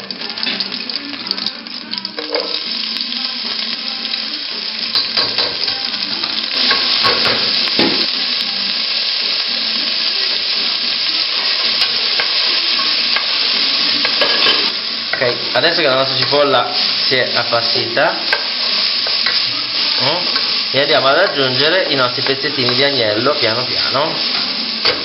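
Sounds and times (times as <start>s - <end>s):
onion sizzling in oil: 0.0s - 25.0s.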